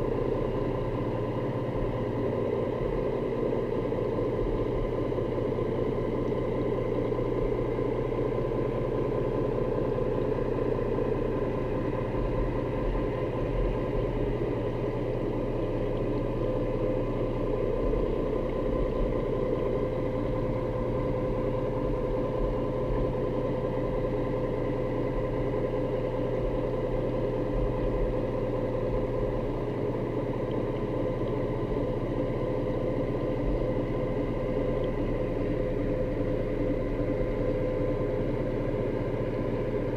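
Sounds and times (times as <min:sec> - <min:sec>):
engine hum underwater: 0:00.0 - 0:39.9.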